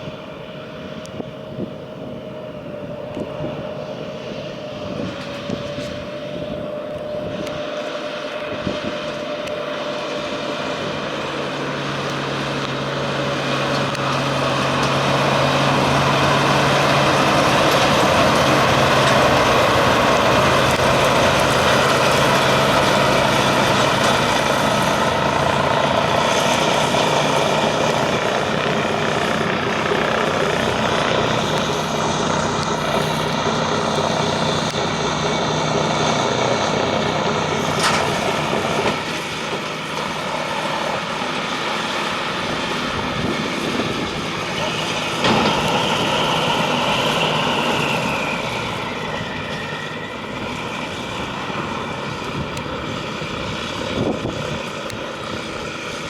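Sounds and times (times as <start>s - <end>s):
round baler running: 0.0s - 56.0s
tractor engine: 0.0s - 56.0s.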